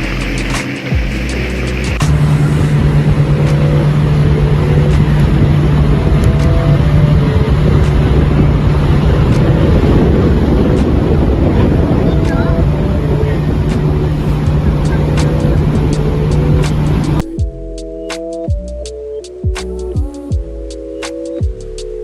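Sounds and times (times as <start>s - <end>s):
vehicle engine running: 0.0s - 17.8s.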